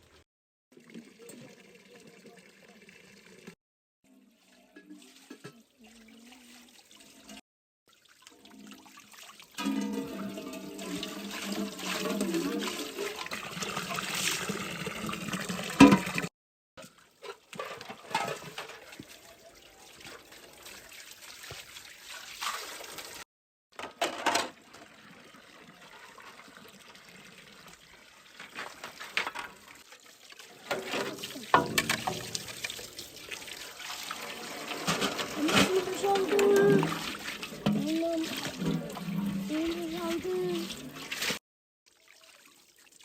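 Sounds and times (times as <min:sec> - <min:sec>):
water splashing and trickling: 0:00.0 - 0:43.0.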